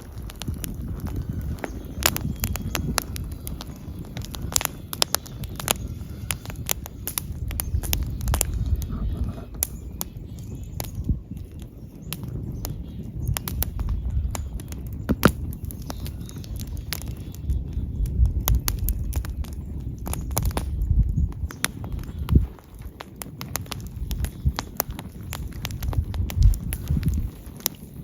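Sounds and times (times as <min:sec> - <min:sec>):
sharp snaps and pops: 0:00.0 - 0:28.0
wood fire crackling: 0:00.0 - 0:28.0.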